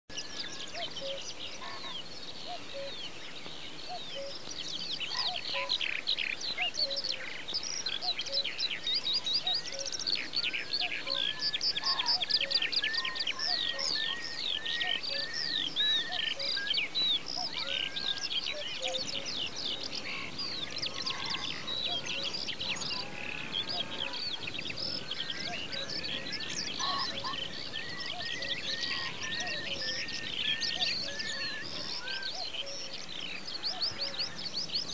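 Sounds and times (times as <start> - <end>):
songbirds chirping and trilling: 0.1 - 34.9.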